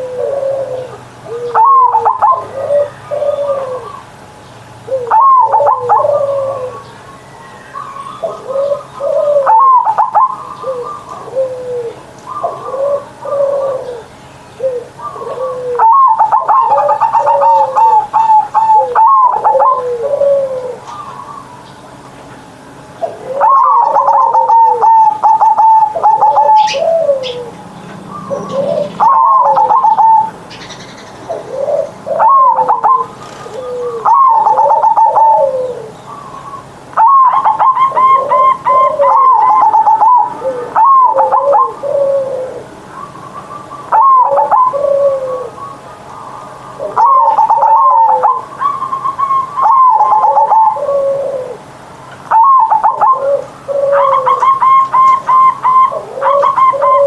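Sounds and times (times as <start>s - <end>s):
dove cooing song: 0.0s - 57.0s.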